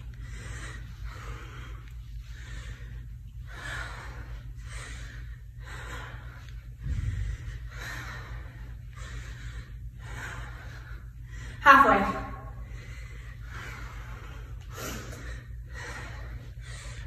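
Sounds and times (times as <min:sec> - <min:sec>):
woman breathing hard: 0:00.0 - 0:11.7, 0:12.3 - 0:17.0
constant low hum: 0:00.0 - 0:17.0.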